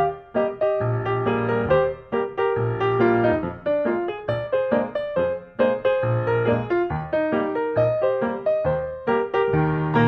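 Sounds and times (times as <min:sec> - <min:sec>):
background music melody: 0:00.0 - 0:10.0.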